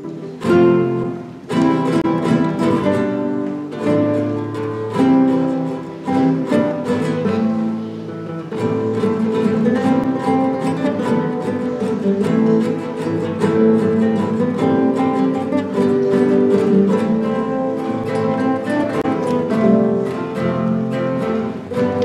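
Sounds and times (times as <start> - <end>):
classical guitars playing: 0.0 - 22.0.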